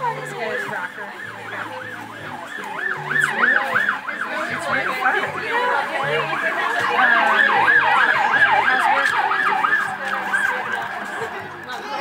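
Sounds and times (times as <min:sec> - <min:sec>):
emergency sirens yelping: 0:00.0 - 0:11.6.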